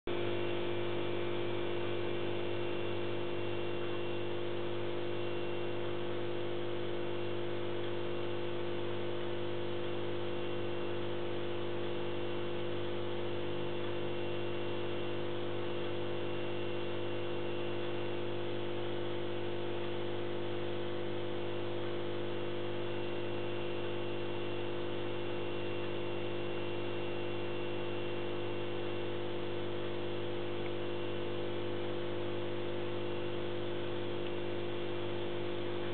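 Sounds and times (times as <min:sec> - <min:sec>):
aquarium pump humming: 0:00.1 - 0:35.9.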